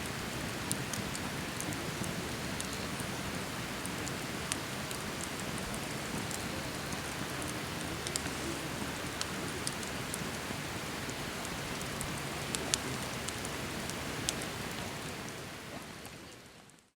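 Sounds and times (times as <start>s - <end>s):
campfire crackling and hissing: 0.0s - 17.0s.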